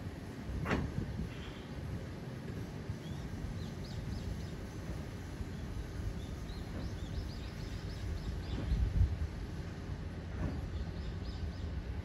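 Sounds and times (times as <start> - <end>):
cable car low rumble: 0.0 - 12.0.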